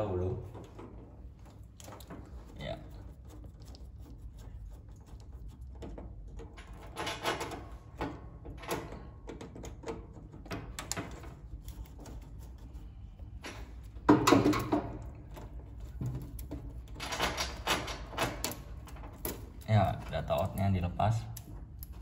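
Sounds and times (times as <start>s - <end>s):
wire handling: 0.4s - 22.0s
small metallic clicks and scrapes: 0.5s - 22.0s.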